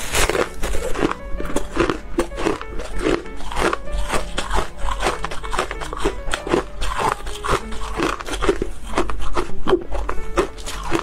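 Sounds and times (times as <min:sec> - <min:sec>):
background music: 0:00.0 - 0:11.0
ice crunching while chewed: 0:00.0 - 0:11.0.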